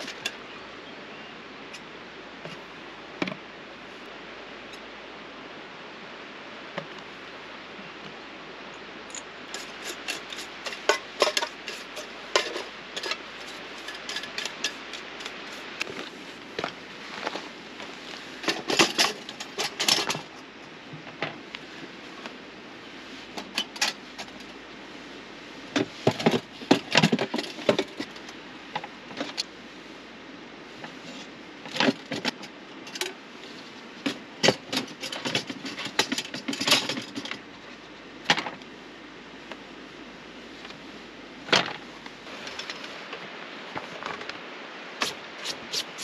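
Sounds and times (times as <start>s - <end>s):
steady background hiss: 0.0s - 46.0s.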